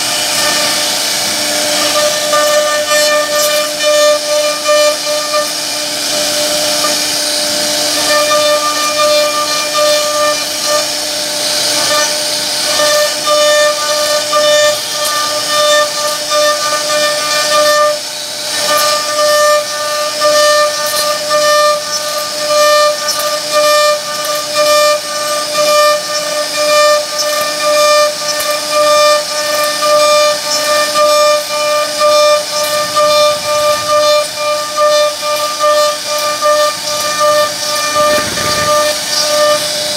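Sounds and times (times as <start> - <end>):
router spindle whining: 0.0 - 39.9
wood cutting hiss: 0.0 - 39.9.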